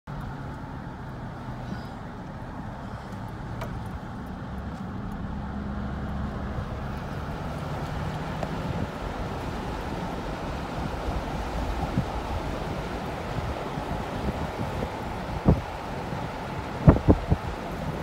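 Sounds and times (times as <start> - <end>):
car engine and road hum: 0.1 - 18.0.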